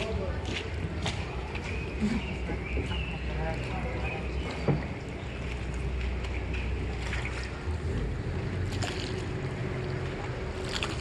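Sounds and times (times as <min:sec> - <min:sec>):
water washing: 0:00.0 - 0:11.0.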